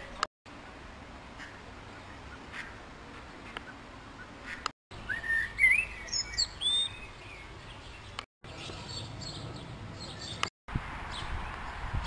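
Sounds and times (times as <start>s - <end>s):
outdoor background hiss: 0.0s - 12.0s
songbird singing: 1.4s - 12.0s.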